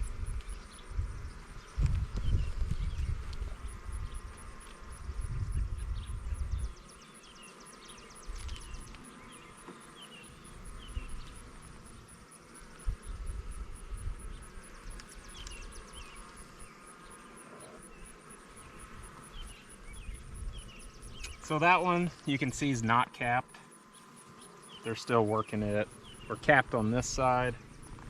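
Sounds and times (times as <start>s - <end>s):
honeybees buzzing: 0.0s - 28.0s.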